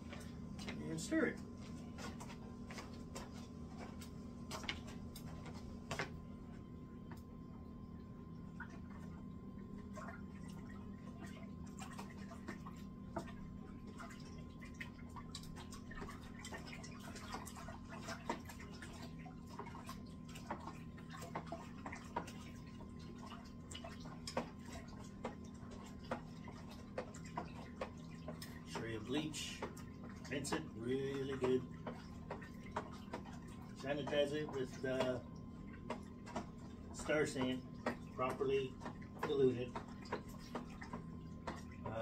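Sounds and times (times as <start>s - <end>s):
liquid swishing and dripping: 0.0s - 42.0s
steady low hum: 0.0s - 42.0s.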